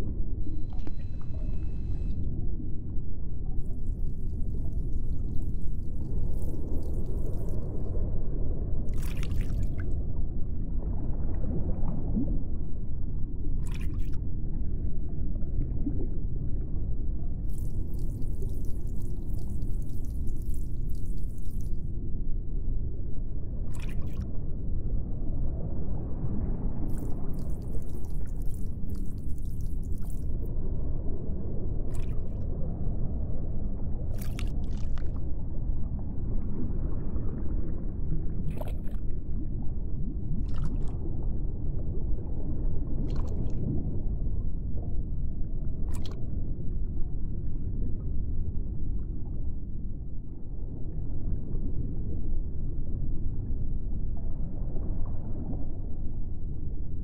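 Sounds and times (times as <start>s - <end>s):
low underwater-like rumble: 0.0s - 57.0s.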